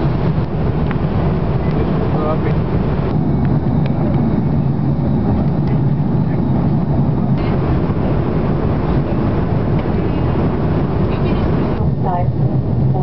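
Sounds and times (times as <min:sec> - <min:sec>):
airplane cabin engine roar: 0:00.0 - 0:13.0.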